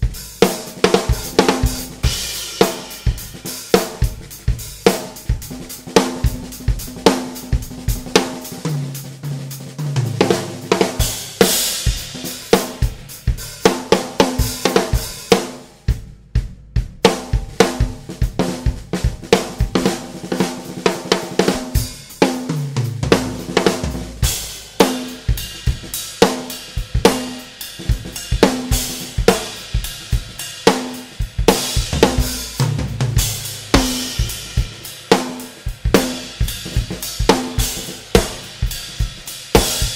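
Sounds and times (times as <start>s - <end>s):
cymbals: 0.0s - 16.0s, 17.0s - 39.9s
bass drum: 0.0s - 39.9s
drum fills: 0.0s - 39.9s
snare drum: 0.0s - 39.9s.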